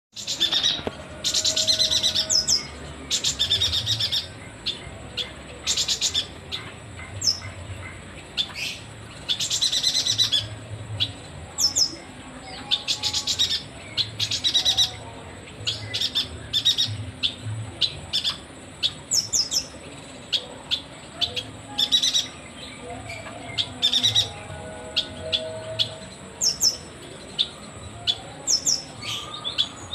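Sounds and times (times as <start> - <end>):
bird chirping trills: 0.1 - 29.9.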